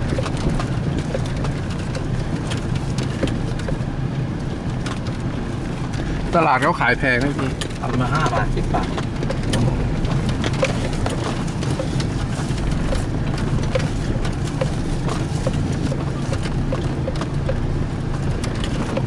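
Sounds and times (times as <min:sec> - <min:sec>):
knocks and rattles: 0:00.0 - 0:19.0
vehicle engine and road rumble: 0:00.0 - 0:19.0.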